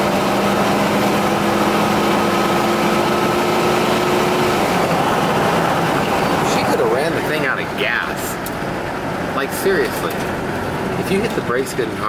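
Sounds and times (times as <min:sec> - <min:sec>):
car engine drone in cabin: 0:00.0 - 0:12.0
road and wind noise: 0:00.0 - 0:12.0.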